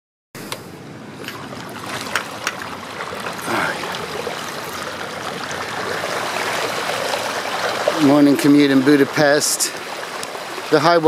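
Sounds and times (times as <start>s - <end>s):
bicycle tyres splashing through water: 1.2s - 11.0s.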